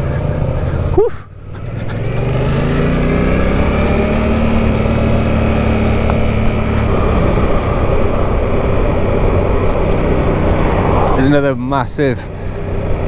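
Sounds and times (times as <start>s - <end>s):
motorcycle engine pulling: 0.0s - 13.0s
wind and road noise: 0.0s - 13.0s.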